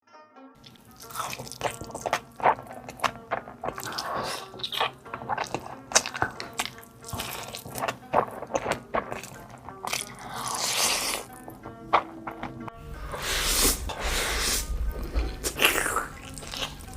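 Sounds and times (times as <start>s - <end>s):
wet chewing and mouth smacking: 0.6s - 16.9s.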